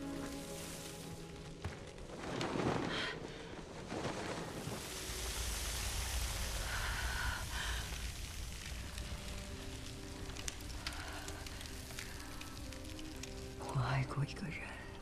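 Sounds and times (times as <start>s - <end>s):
deep rumble: 1.7s - 14.0s.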